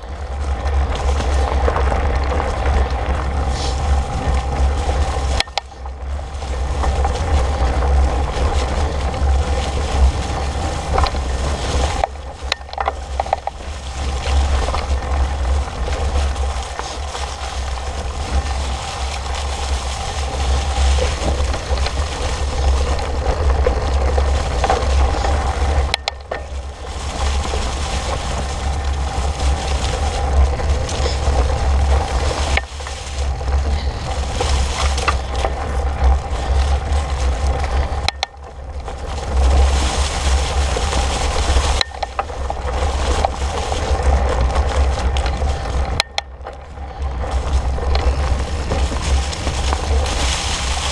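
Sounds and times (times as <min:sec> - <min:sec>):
bike rattling over bumps: 0:00.0 - 0:50.9
bike tyres crunching dry leaves: 0:00.0 - 0:50.9
wind rumble on camera: 0:00.0 - 0:50.9.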